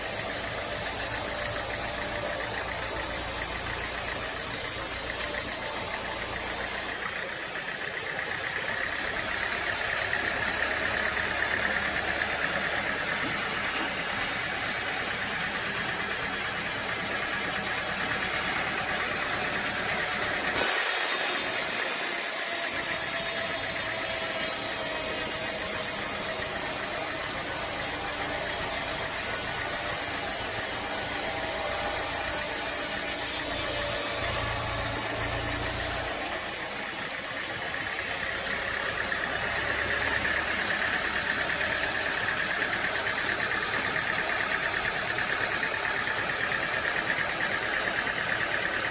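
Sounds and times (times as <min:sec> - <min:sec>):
engine-driven machinery running: 0:00.0 - 0:48.9.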